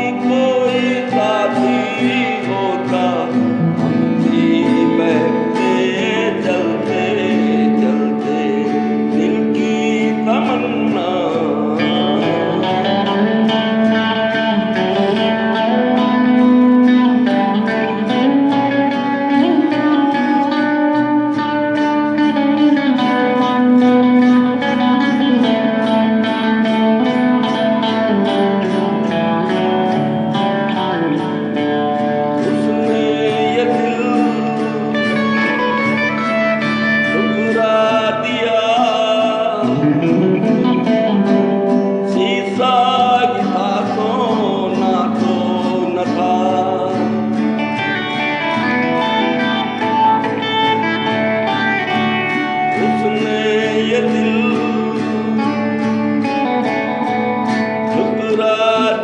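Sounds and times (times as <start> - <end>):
acoustic guitar music: 0.0 - 59.0.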